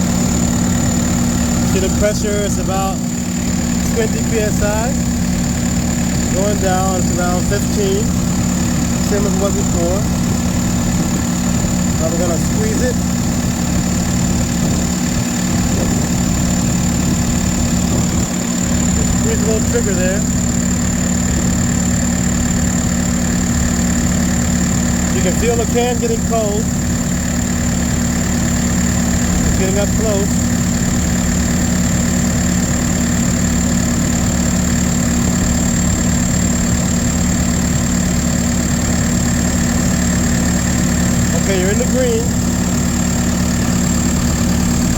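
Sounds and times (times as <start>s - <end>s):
air-conditioning compressor running: 0.0s - 44.9s
diesel engine idling: 0.0s - 44.9s.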